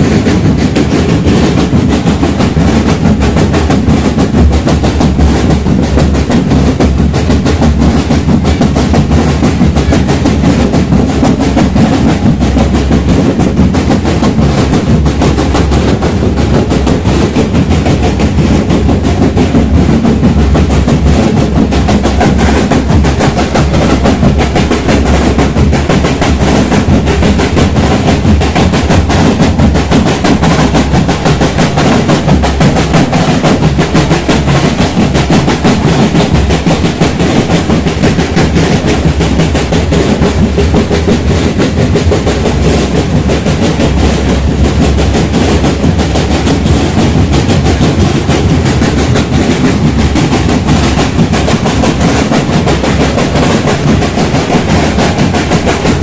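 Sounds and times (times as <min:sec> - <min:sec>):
marching drum band playing: 0:00.0 - 0:56.0.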